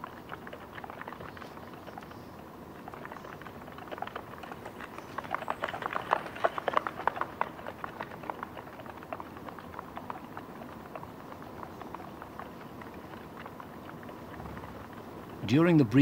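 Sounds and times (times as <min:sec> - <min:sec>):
hooves clicking on rock: 0:00.0 - 0:16.0.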